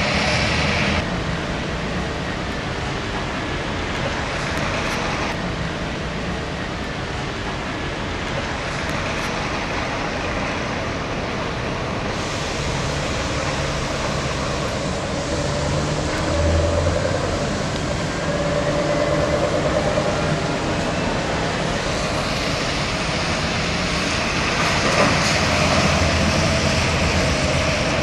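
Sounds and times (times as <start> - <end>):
road and tyre noise: 0.0 - 28.0.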